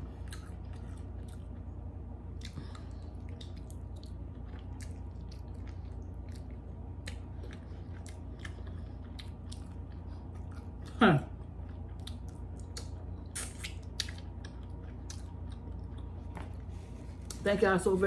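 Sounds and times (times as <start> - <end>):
steady low hum: 0.0 - 18.0
person chewing with mouth clicks: 0.2 - 1.7, 2.3 - 17.4.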